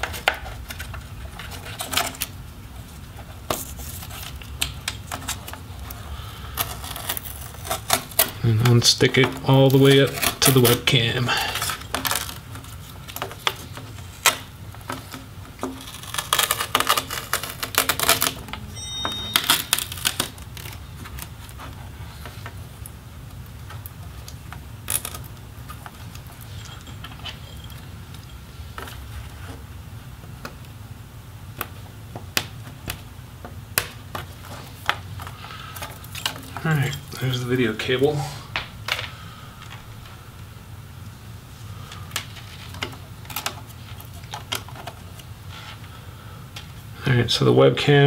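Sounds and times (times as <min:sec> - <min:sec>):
cable clicks and crinkly rustles: 0:00.0 - 0:18.7, 0:19.4 - 0:30.8, 0:31.5 - 0:46.8
steady low hum: 0:00.0 - 0:48.0.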